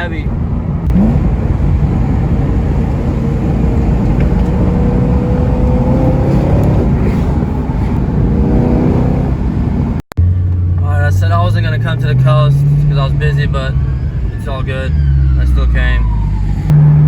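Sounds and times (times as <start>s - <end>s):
car engine accelerating: 0.0s - 17.0s
road rumble: 0.0s - 17.0s.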